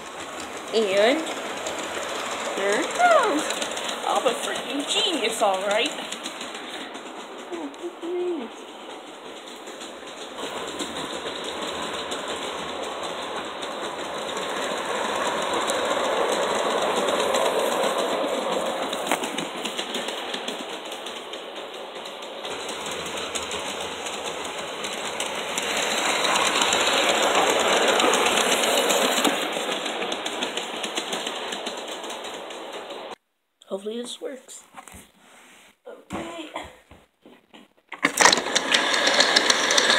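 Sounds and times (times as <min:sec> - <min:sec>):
model train motor whirring: 0:00.0 - 0:33.2, 0:38.0 - 0:39.9
wheels rattling on rails: 0:00.0 - 0:33.2, 0:37.9 - 0:39.9.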